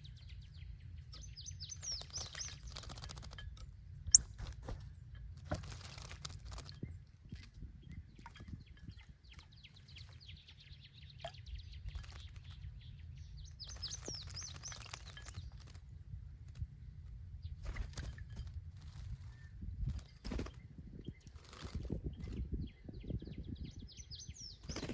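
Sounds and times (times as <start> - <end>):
small songbirds chirping: 0.0 - 24.9.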